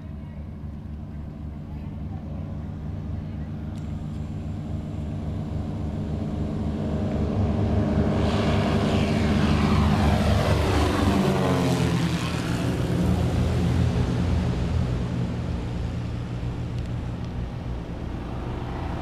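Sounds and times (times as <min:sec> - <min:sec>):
propeller airplane passing: 0:00.0 - 0:19.0.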